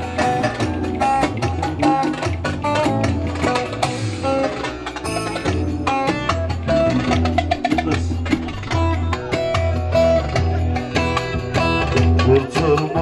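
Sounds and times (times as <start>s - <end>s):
folk dance music: 0.0s - 13.0s
keyboard bass line: 0.0s - 13.0s
percussion: 0.0s - 13.0s
plucked lute melody: 0.0s - 13.0s.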